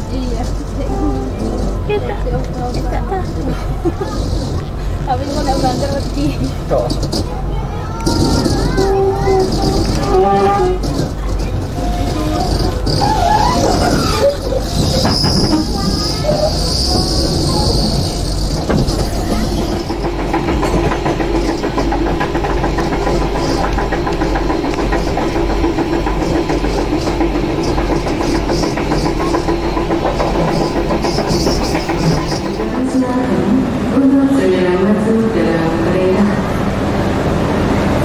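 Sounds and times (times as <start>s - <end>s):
train wheels rumbling and rattling: 0.0s - 38.0s.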